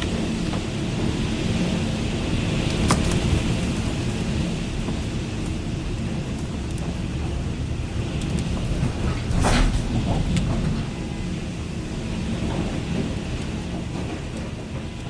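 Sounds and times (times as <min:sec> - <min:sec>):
heavy rain: 0:00.0 - 0:15.0
thunder crack rumbling: 0:00.0 - 0:15.0.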